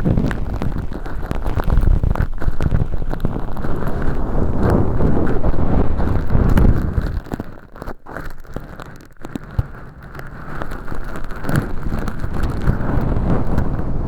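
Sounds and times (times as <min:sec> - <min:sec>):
ear pick scraping and crackling: 0:00.0 - 0:14.0.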